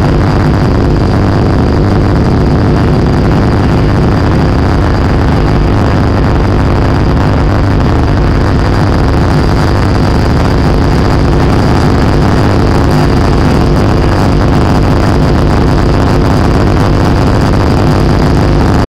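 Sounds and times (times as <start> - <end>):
low noise drone: 0.0 - 18.9.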